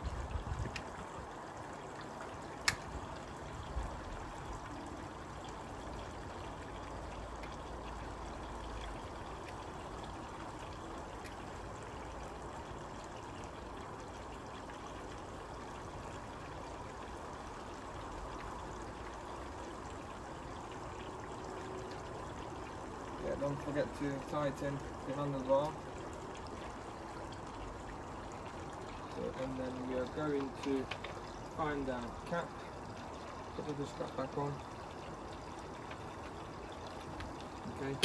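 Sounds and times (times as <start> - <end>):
outdoor background hiss: 0.0 - 38.0.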